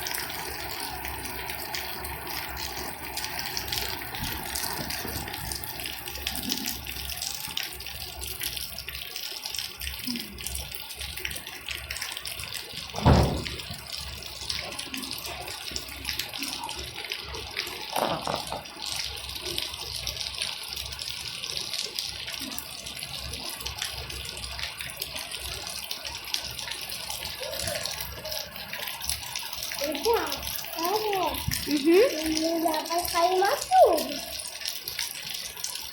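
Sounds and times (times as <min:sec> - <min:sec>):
rushing water: 0:00.0 - 0:35.9.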